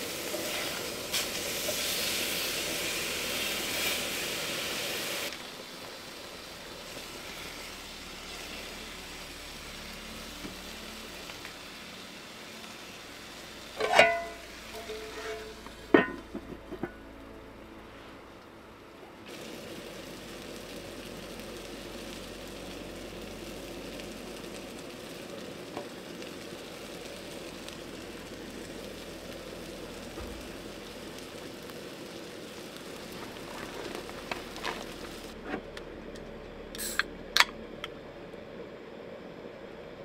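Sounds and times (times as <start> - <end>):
food sizzling in pans: 0.0 - 17.3, 19.2 - 35.4.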